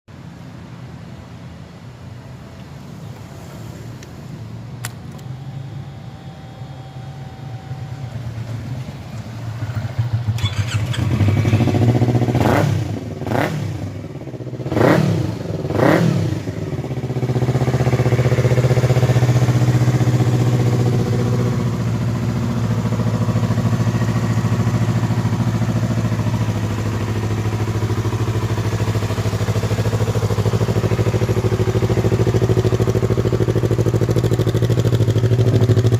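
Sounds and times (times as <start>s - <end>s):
motorcycle engine revving: 7.0s - 35.9s.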